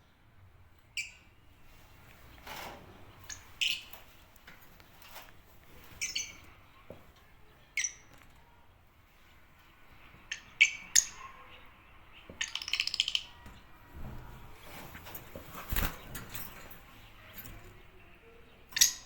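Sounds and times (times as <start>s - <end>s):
lovebirds chirping: 0.0s - 13.9s, 14.5s - 19.0s.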